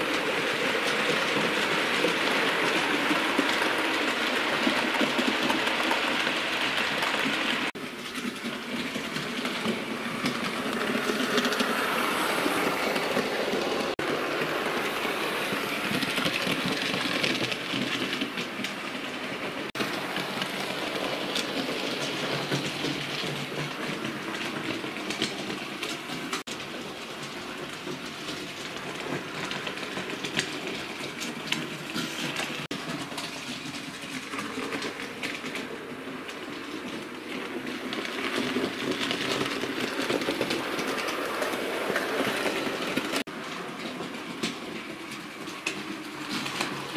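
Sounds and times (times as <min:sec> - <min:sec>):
wheels clicking over rails: 0:00.0 - 0:46.9.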